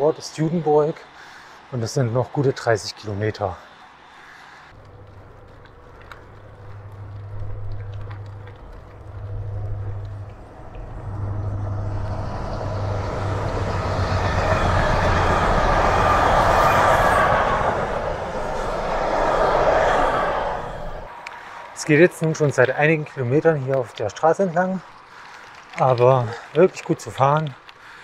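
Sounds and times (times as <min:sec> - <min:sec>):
freight train passing: 0:00.9 - 0:23.6.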